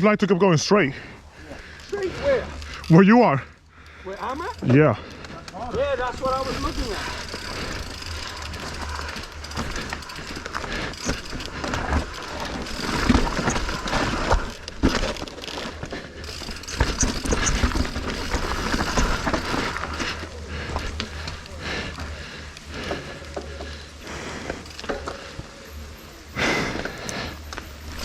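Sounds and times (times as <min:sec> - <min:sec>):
bike rattling: 0:00.5 - 0:28.0
bike tyres crunching on rocks: 0:01.0 - 0:28.0.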